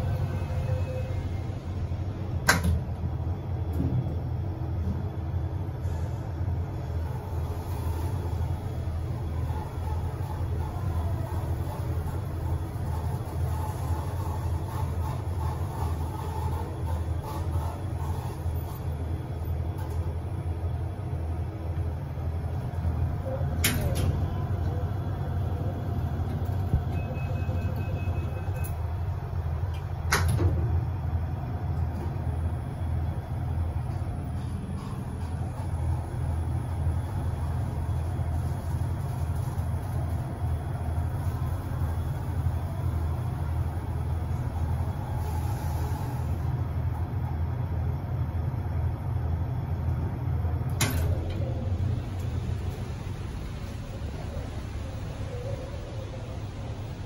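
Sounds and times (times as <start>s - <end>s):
lift car low hum: 0.0s - 57.0s.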